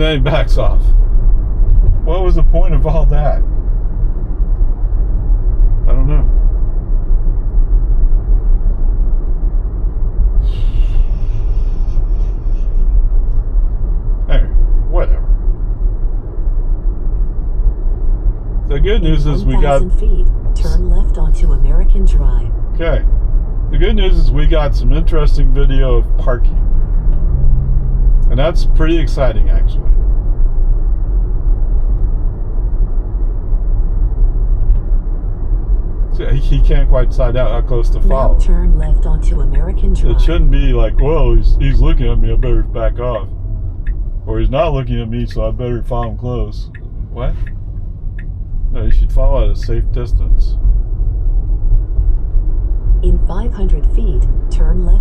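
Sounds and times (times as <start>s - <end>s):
road and tyre rumble: 0.0s - 55.0s.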